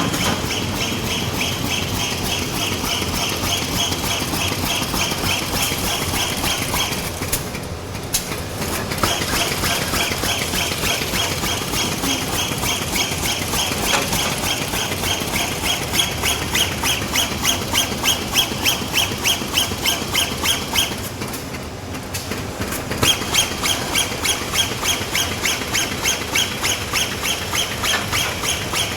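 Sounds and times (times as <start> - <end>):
bag making machine stroking: 0.0 - 28.9.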